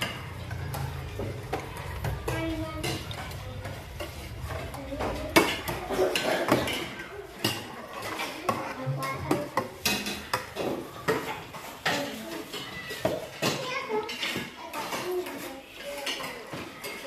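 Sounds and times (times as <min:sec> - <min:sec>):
spoons clinking on plates: 0:00.0 - 0:17.0.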